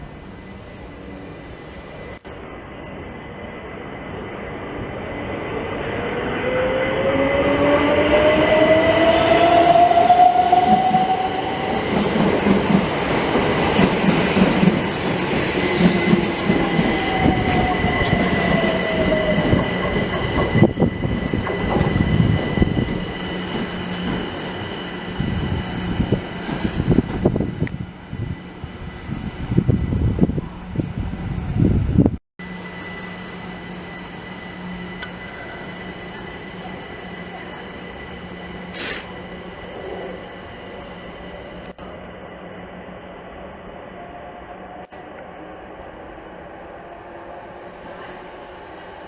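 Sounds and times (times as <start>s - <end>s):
train whine: 0.0s - 49.0s.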